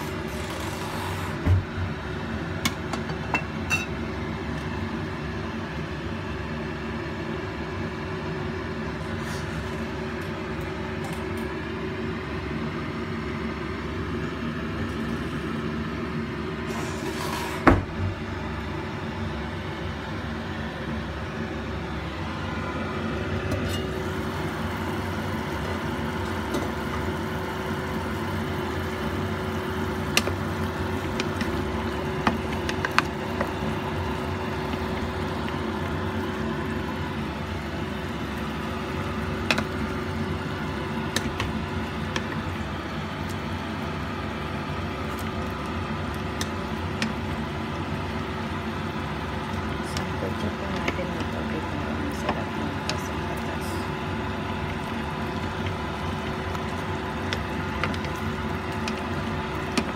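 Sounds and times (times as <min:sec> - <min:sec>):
meat cooking in pot: 0:00.0 - 0:59.9
steady mechanical hum: 0:00.0 - 0:59.9.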